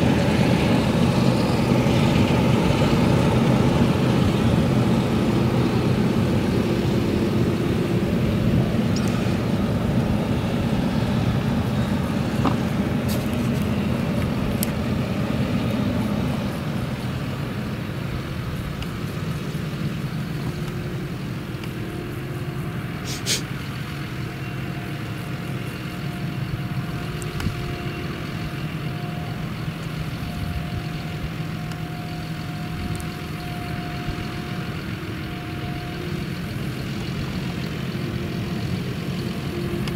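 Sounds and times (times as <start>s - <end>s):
distant harvester engine drone: 0.0s - 39.9s.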